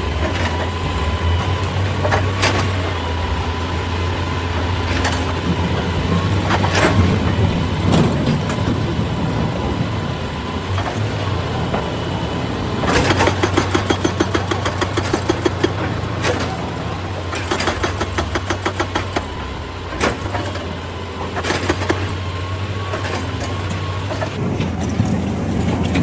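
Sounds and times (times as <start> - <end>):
diesel engine running: 0.0 - 26.0
rapid metallic clanking: 0.0 - 26.0.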